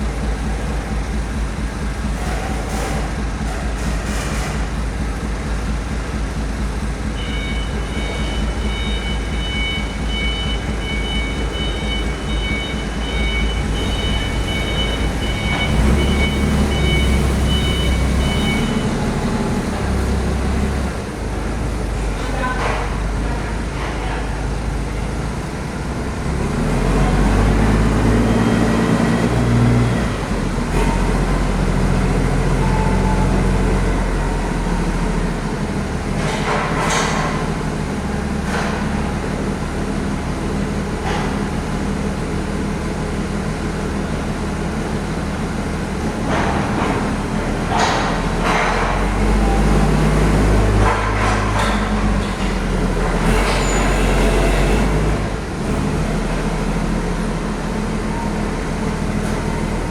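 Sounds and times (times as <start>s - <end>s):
large diesel vehicles running: 0.0s - 59.9s.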